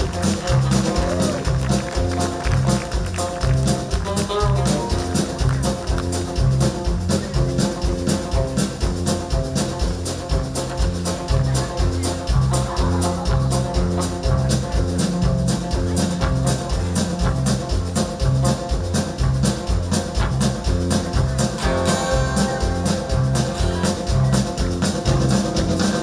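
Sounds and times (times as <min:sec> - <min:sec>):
country band playing: 0:00.0 - 0:26.0.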